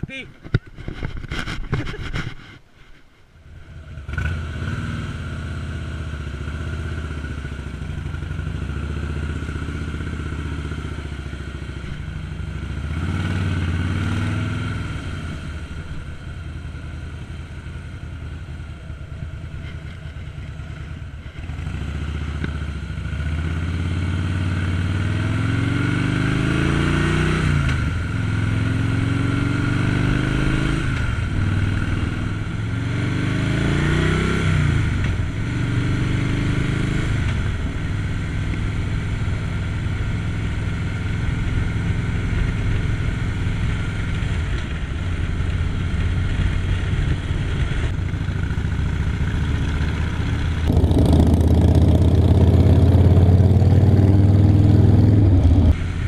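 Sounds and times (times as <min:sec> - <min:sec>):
deeper motorcycle engine: 0:03.4 - 0:56.0
motorcycle engine accelerating: 0:03.5 - 0:56.0.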